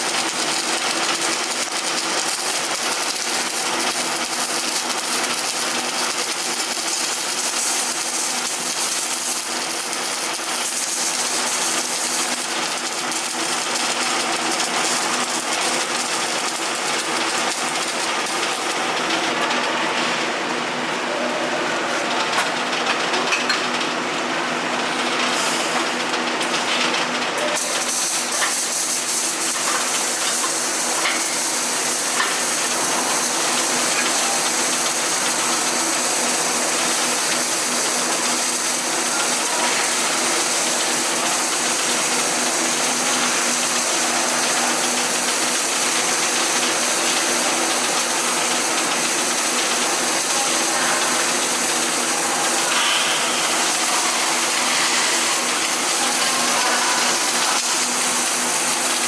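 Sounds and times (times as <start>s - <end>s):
arc welding crackling hiss: 0.0s - 20.4s, 21.0s - 59.0s
welding machine hum: 0.0s - 59.0s.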